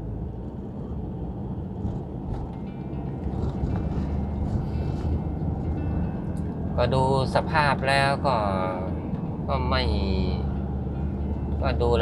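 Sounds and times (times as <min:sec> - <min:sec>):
car engine and road rumble from inside: 0:00.0 - 0:12.0.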